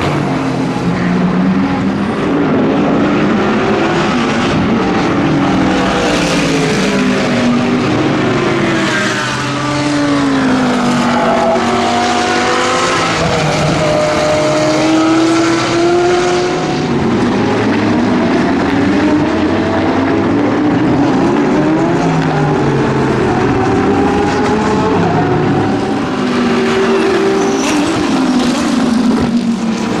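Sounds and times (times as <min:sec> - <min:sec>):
race car engines racing: 0:00.0 - 0:30.0.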